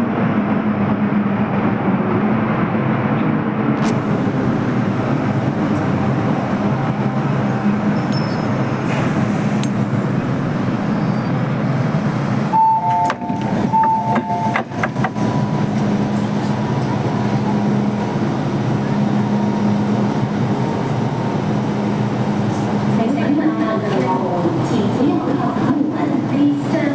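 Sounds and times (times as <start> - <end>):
train rumble inside car: 0.0 - 26.9.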